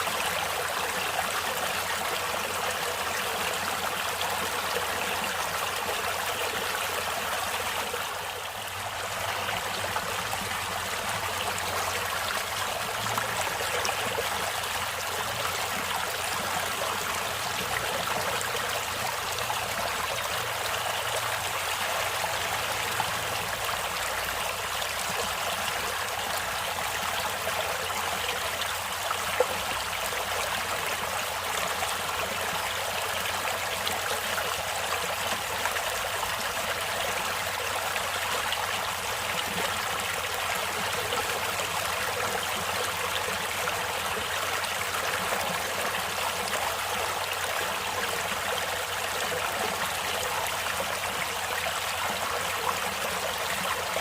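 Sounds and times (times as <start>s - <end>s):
stream water splashing over rocks: 0.0s - 54.0s.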